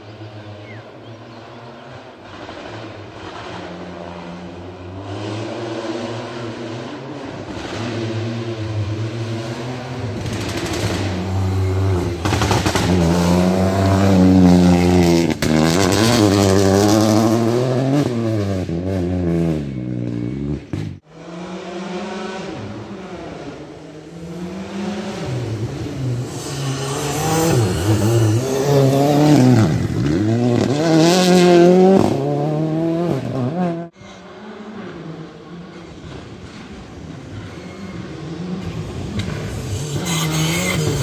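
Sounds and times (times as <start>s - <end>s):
rally car engine passing: 0.0s - 41.0s.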